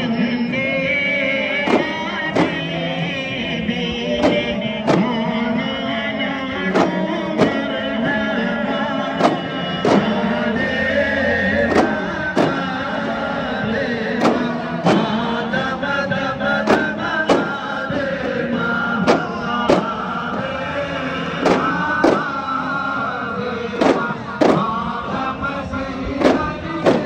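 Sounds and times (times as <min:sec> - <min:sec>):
chanted singing over music: 0:00.0 - 0:27.0
sharp percussion strikes: 0:01.6 - 0:03.2, 0:04.1 - 0:05.8, 0:06.7 - 0:15.8, 0:16.4 - 0:25.3, 0:26.2 - 0:27.0.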